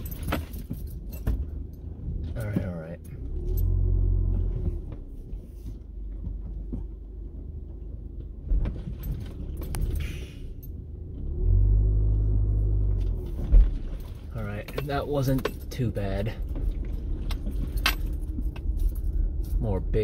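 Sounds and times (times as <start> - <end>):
car knocks and rattles: 0.0 - 10.0, 13.0 - 20.0
car engine rumble: 0.0 - 20.0.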